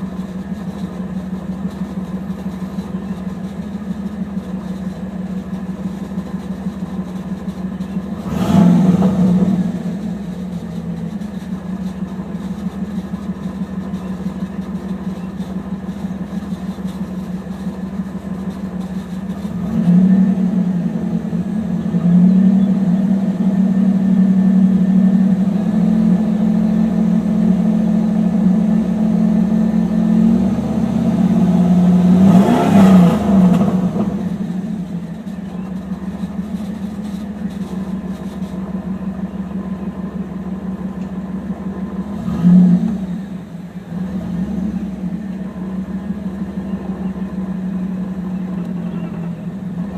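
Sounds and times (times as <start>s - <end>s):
car engine running: 0.0s - 49.9s.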